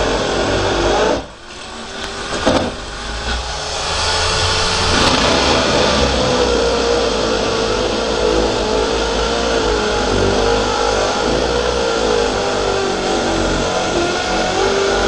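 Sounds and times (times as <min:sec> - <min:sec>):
electric drill running: 0:00.0 - 0:15.0.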